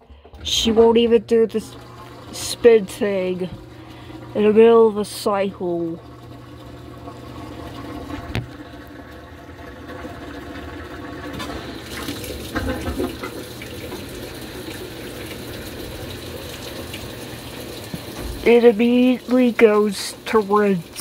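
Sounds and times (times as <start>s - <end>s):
washing machine low hum: 0.0s - 21.0s
water running into drum: 0.0s - 21.0s.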